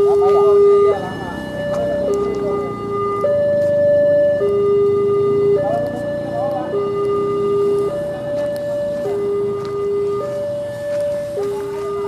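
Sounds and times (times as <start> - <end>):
two-tone level crossing alarm: 0.0 - 12.0.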